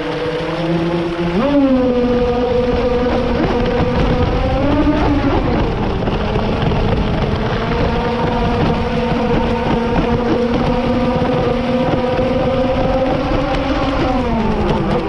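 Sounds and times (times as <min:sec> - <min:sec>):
model boat motor running: 0:00.0 - 0:15.0
water rushing at bow: 0:00.0 - 0:15.0.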